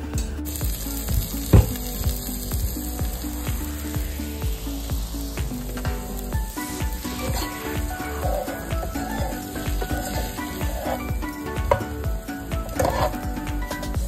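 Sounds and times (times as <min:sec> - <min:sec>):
background music with steady beat: 0:00.0 - 0:14.0
food sizzling in a pan: 0:00.5 - 0:14.0.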